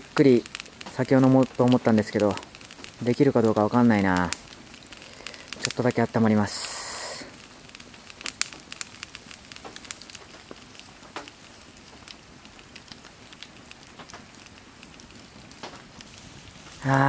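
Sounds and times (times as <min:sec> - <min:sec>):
campfire crackling and popping: 0:00.0 - 0:17.0
light rain falling: 0:00.0 - 0:17.0.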